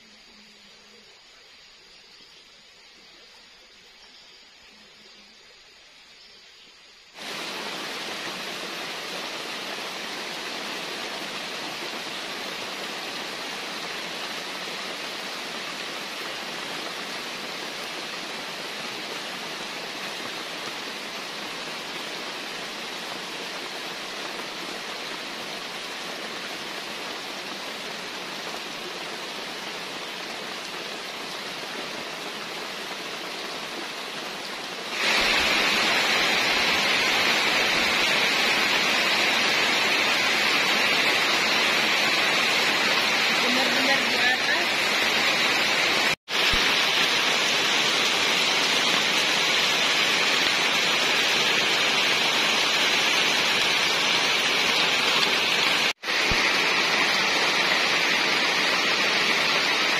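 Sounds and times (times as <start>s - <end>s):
heavy rain pouring: 7.1s - 59.9s
water rushing: 7.2s - 59.9s.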